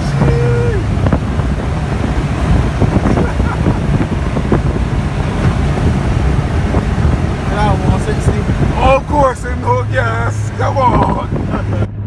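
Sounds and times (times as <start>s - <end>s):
low road rumble: 0.0s - 12.0s
wind buffeting microphone: 0.0s - 12.0s.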